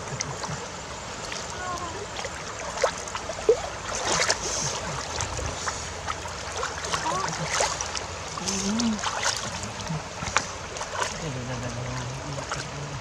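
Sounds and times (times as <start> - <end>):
river water running: 0.0 - 13.0
splashes in water: 0.0 - 13.0.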